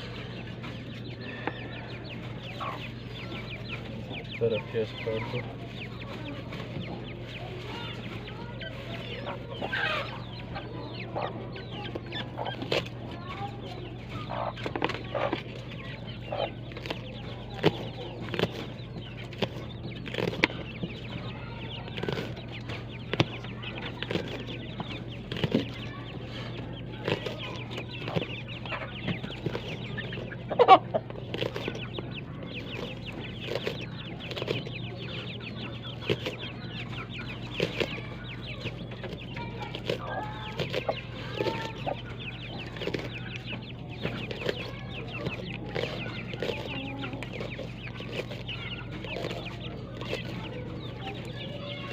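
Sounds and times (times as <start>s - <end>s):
chickens clucking: 0.0s - 51.9s
steady low hum: 0.0s - 51.9s.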